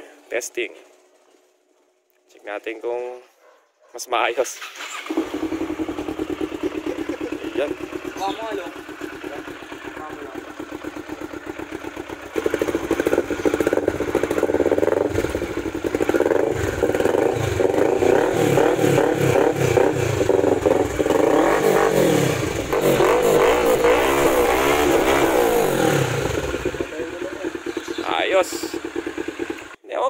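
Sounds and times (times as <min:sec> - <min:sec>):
motorcycle engine revving: 0:04.6 - 0:29.8.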